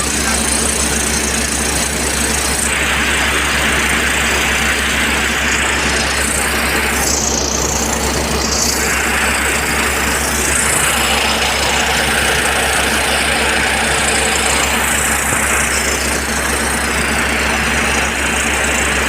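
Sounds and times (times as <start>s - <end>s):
jackhammer hammering: 0.0s - 19.0s.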